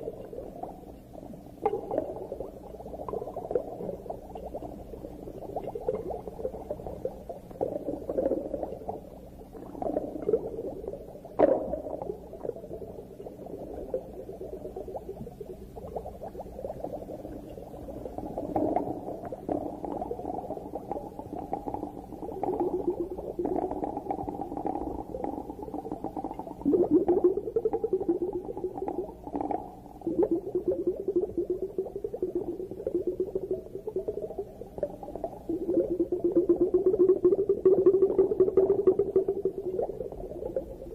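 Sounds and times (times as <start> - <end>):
muffled underwater bubbling: 0.0 - 40.9.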